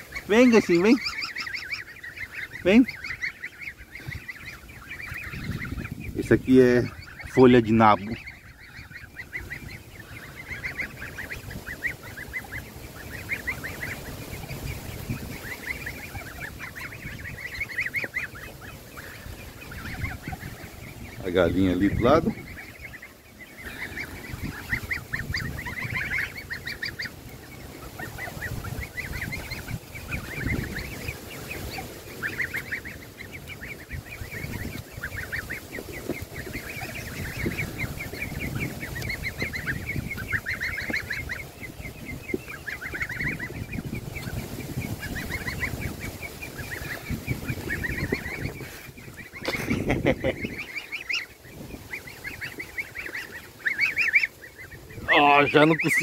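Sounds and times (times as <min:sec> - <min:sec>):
goslings and ducklings peeping: 0:00.0 - 0:56.0.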